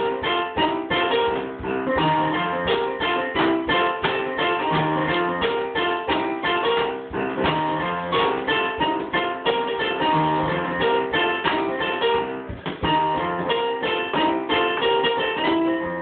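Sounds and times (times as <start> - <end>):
blues boogie on electronic keyboard: 0.0 - 16.0.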